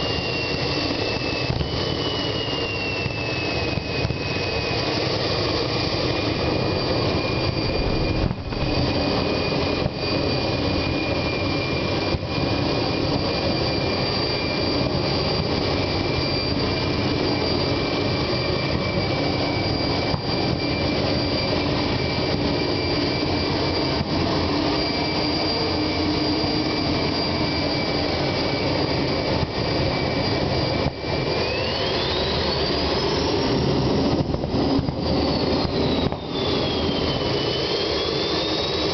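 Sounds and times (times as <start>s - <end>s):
high turbine whine: 0.0s - 38.9s
jet engine roar: 0.0s - 38.9s.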